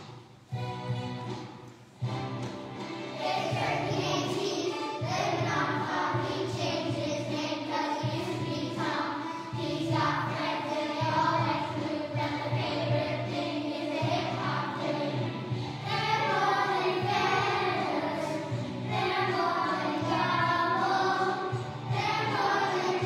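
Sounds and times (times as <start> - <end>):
christmas song with singing: 3.0 - 23.0.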